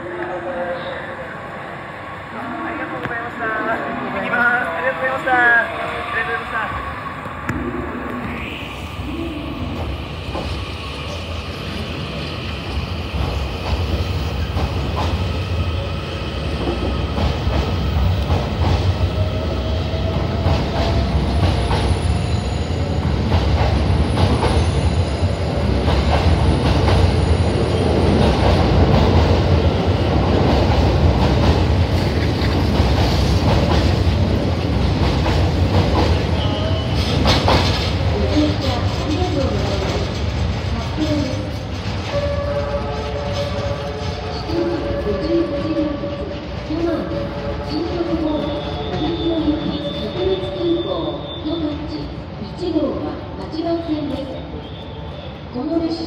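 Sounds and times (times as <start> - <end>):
train rumble and hum: 0.0 - 56.0.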